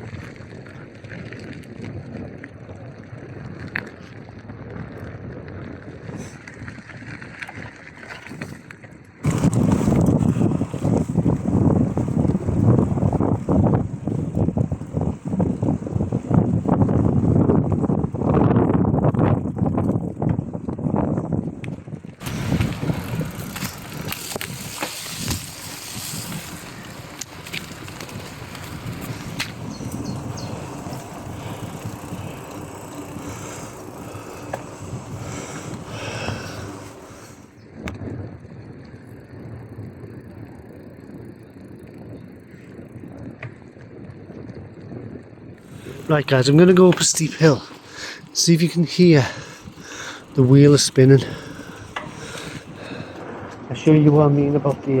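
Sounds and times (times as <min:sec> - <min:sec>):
bicycle rattling: 0:00.0 - 0:55.0
bike tyres crunching on gravel: 0:00.0 - 0:55.0
wind rumble on microphone: 0:00.0 - 0:55.0.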